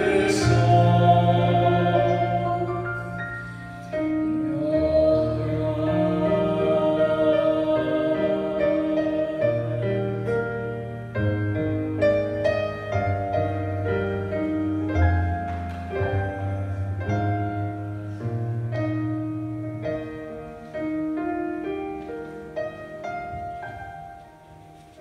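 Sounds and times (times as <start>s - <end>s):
piano playing: 0.0s - 25.0s.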